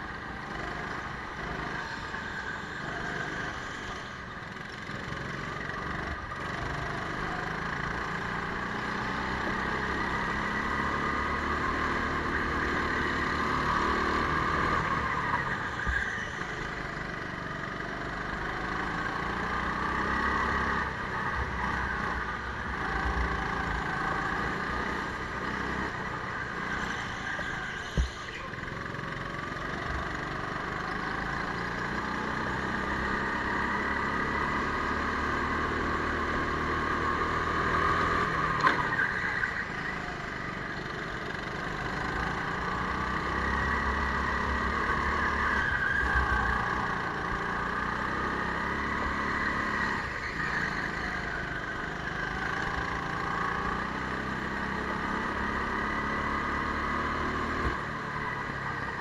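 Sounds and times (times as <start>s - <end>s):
go-kart motor running: 0.0s - 59.0s.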